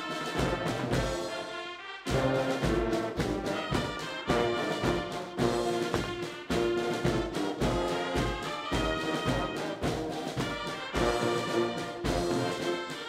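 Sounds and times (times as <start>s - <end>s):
brass chords: 0.0s - 13.0s.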